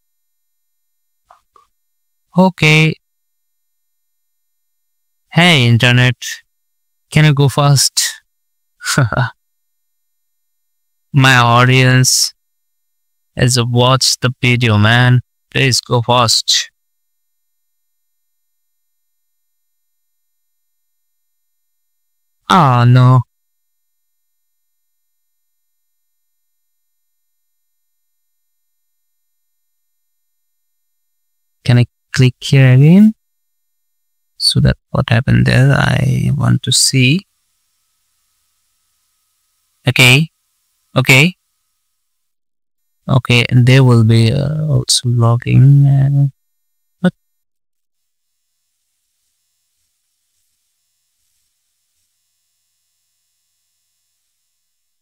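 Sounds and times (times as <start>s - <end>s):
faint electrical tone: 0.0s - 55.0s
faint recording hum and hiss: 0.0s - 55.0s.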